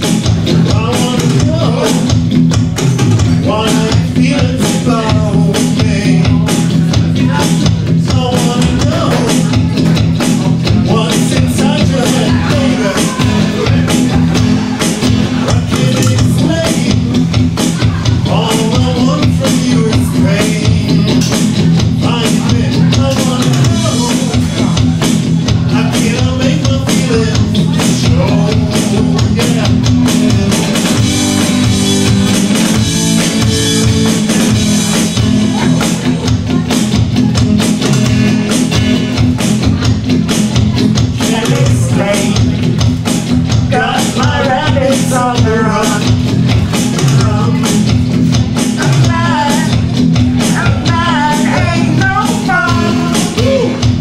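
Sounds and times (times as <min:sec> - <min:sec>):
person singing: 0:00.0 - 0:02.2, 0:03.2 - 0:32.1, 0:40.7 - 0:42.7, 0:43.5 - 0:54.0
drum kit beat: 0:00.0 - 0:54.0
electric guitar: 0:00.0 - 0:54.0.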